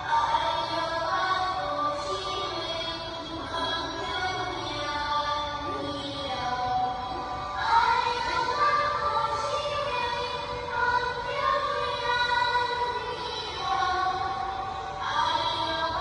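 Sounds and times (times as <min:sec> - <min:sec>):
several voices singing: 0:00.0 - 0:16.0.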